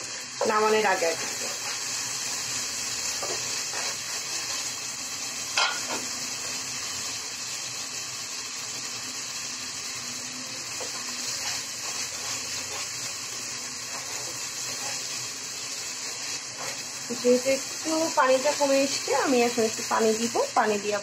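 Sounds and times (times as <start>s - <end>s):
curry sizzling in a pot: 0.0s - 21.0s.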